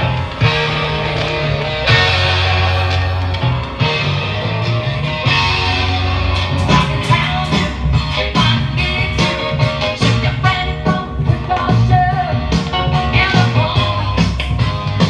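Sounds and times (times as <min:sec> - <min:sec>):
guitar rock music on record player: 0:00.0 - 0:15.0.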